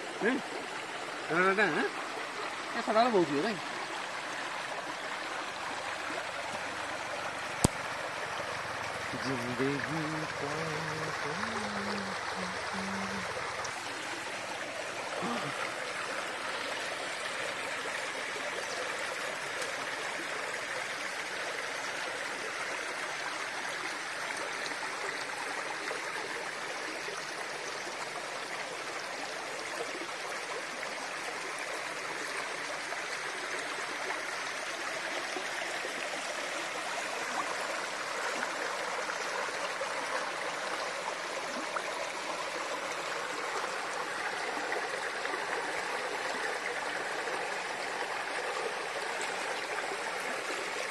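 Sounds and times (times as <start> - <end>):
stream running over stones: 0.0 - 50.9.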